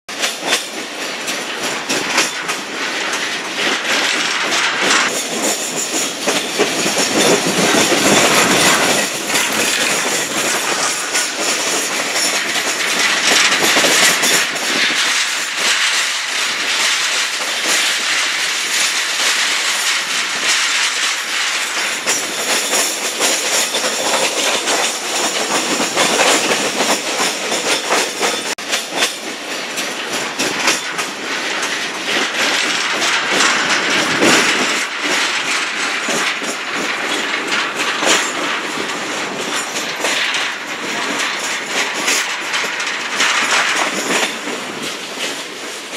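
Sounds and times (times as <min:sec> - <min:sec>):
train wheels on rails: 0:00.1 - 0:45.9
wheels clicking over track: 0:00.1 - 0:45.9.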